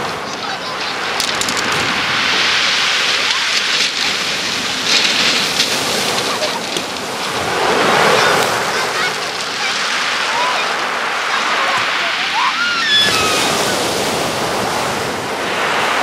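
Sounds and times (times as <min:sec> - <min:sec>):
surf washing up pebble beach: 0:00.0 - 0:16.0.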